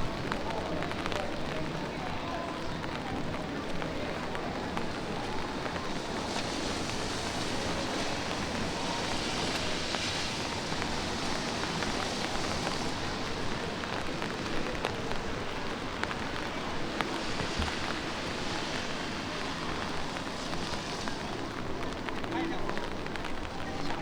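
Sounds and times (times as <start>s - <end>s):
light rain hissing: 0.0s - 24.0s
raindrops ticking: 0.0s - 24.0s.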